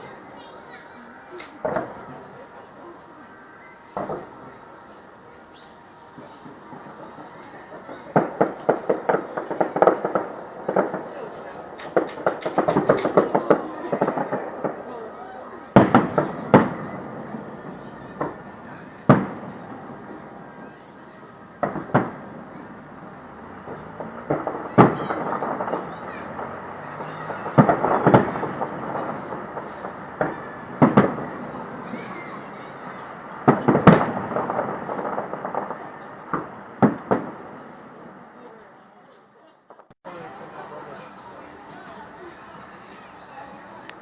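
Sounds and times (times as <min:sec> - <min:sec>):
fireworks bursting with echoing rumble: 0:00.0 - 0:38.6.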